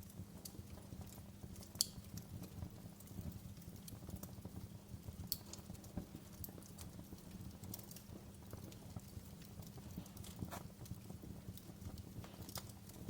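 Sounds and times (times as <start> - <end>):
fire crackling and popping: 0.0 - 13.0
fire rumbling: 0.0 - 13.0.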